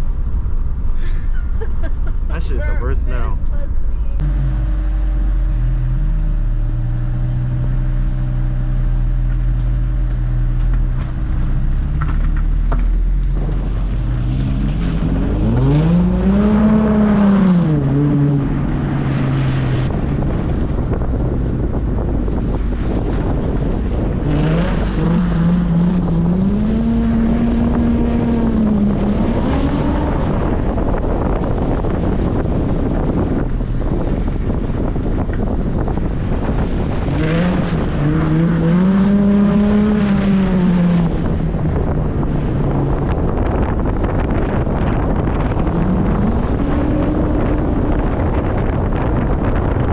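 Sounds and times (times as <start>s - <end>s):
road and wind noise: 0.0s - 49.9s
car engine revving: 1.6s - 49.9s.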